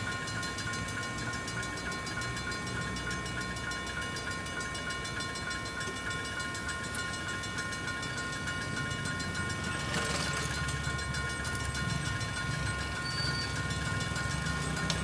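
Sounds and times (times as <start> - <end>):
crossing warning bell ringing: 0.0 - 15.0.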